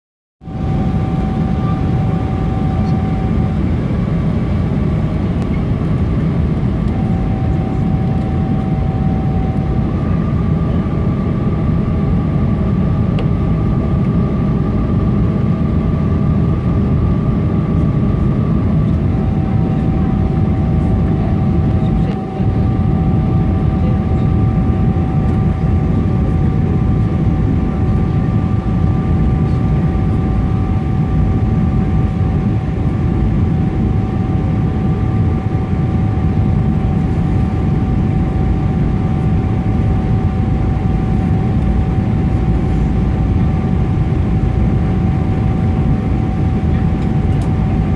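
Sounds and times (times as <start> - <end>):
aircraft cabin rumble: 0.5 - 47.9
steady hum tones: 0.5 - 47.9.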